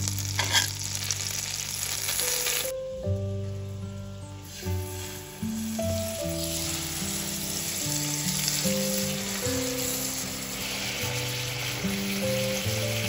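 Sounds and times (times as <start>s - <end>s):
chicken sizzling in a frying pan: 0.0s - 2.8s, 4.4s - 13.0s
background music of held notes: 0.0s - 13.0s.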